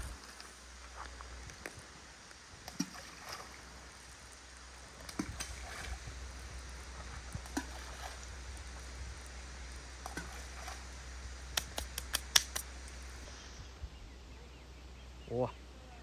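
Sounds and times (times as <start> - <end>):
low wind rumble on microphone: 0.0 - 12.1, 12.8 - 16.0
faint lapping water: 0.0 - 16.0.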